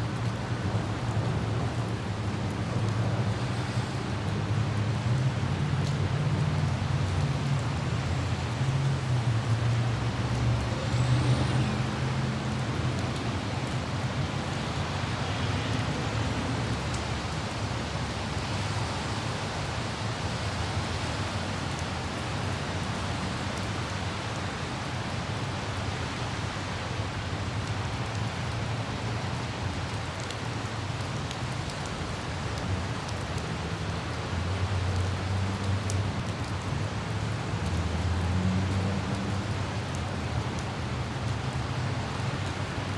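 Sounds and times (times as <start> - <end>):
passing vehicles rumbling: 0.0 - 42.9
rain on wet road: 0.0 - 42.9.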